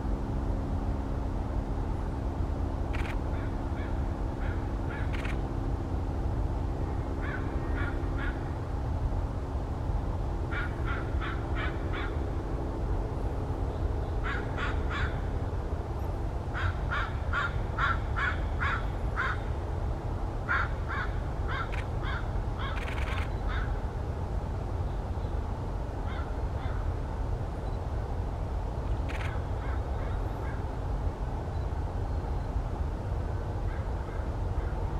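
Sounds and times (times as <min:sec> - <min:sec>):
low background rumble: 0:00.0 - 0:34.9
low hum: 0:00.0 - 0:34.9.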